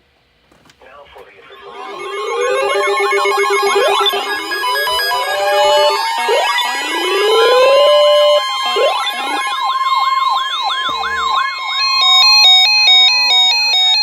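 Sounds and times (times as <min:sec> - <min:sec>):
electronic sirens wailing: 0:00.8 - 0:14.0
alternating beeping tones: 0:01.0 - 0:13.9
fast siren yelp: 0:01.4 - 0:14.0.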